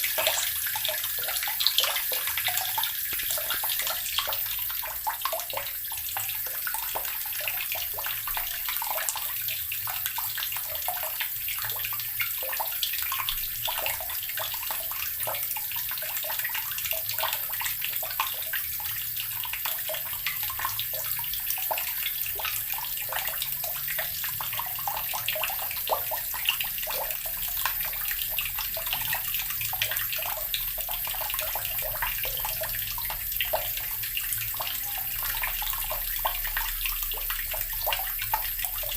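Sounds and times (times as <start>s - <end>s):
tap water running and splashing: 0.0s - 38.9s.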